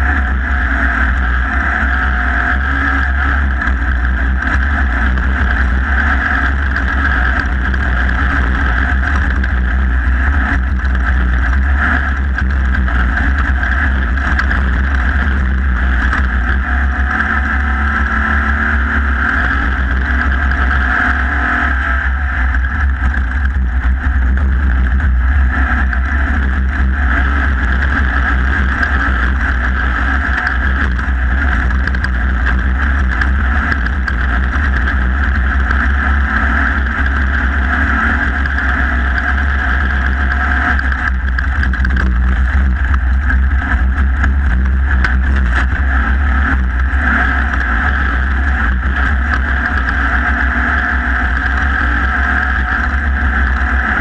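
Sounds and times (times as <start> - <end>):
race car engine drone: 0.0 - 54.0
wind rumble on microphone: 0.0 - 54.0.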